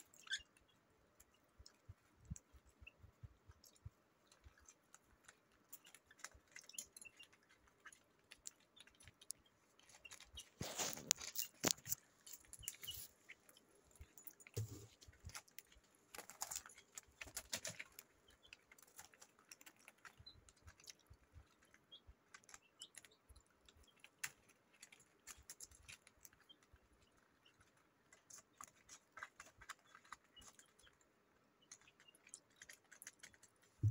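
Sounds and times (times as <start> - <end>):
birds pecking at leaves: 0.0 - 33.9.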